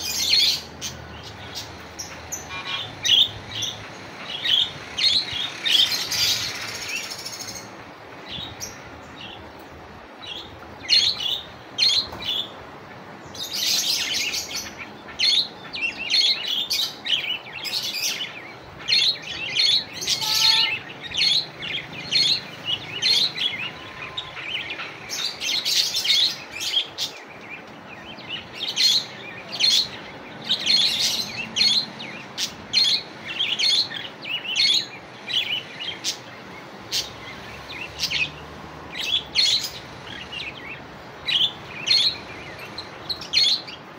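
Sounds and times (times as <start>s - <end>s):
budgerigars chirping: 0.0s - 7.7s, 13.4s - 43.8s.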